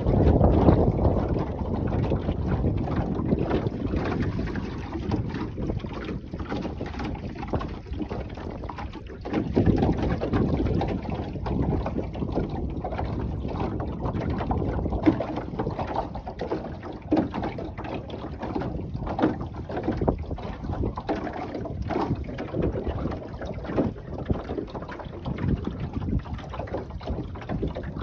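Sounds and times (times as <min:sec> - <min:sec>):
water splashing against hull: 0:00.0 - 0:28.0
wind buffeting microphone: 0:00.0 - 0:28.0.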